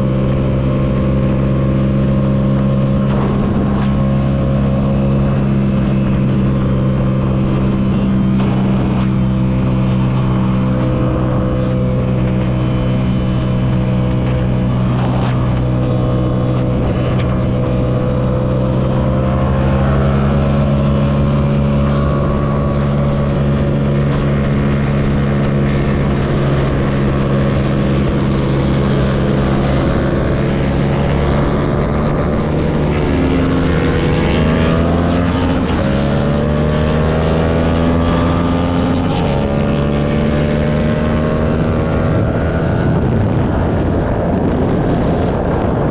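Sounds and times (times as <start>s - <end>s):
motorcycle engine running: 0.0s - 45.9s
wind and road rush: 0.0s - 45.9s.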